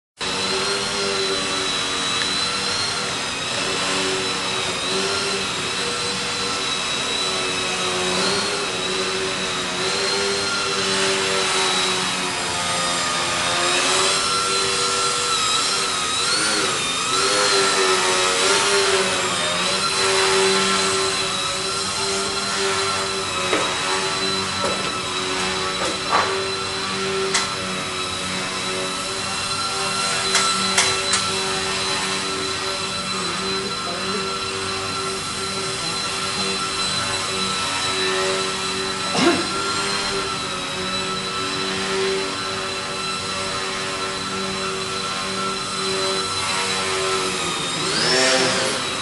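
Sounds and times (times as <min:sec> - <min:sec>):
model plane motor whining: 0:00.2 - 0:49.0.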